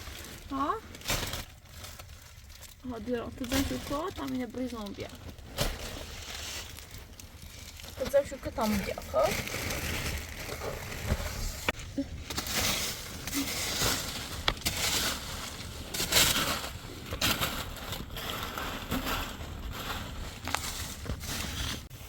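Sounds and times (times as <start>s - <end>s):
crunching and rustling: 0.0s - 22.0s.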